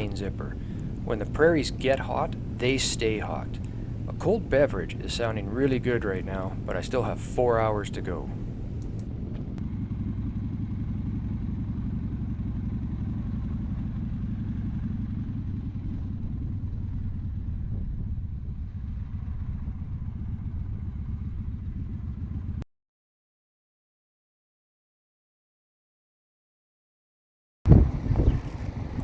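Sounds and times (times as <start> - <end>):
motorcycle engine running: 0.0 - 22.6, 27.8 - 29.0.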